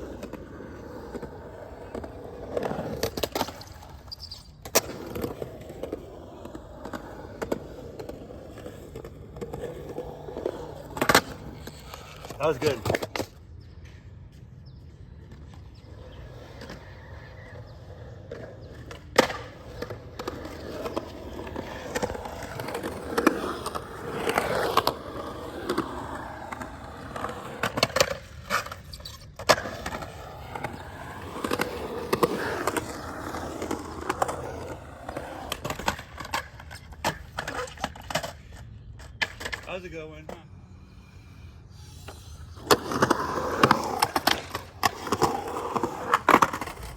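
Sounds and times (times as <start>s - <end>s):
skateboard clacking on ground: 0.0s - 14.1s, 15.3s - 40.5s, 42.0s - 46.9s
skateboard wheels rolling: 0.0s - 46.9s.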